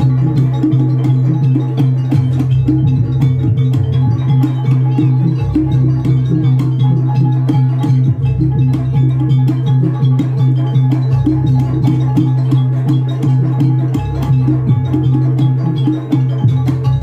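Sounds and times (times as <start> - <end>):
drums: 0.0 - 17.0
gamelan music: 0.0 - 17.0
rapid percussive ticks: 0.0 - 17.0.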